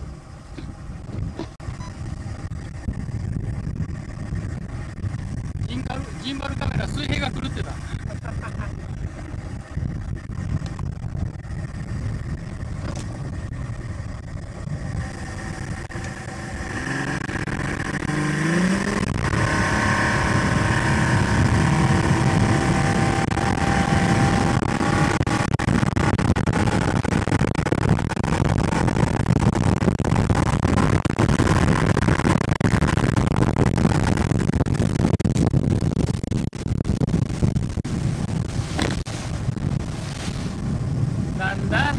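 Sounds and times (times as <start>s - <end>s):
outboard motor running: 0.0s - 41.9s
wind and water rushing past hull: 0.0s - 41.9s.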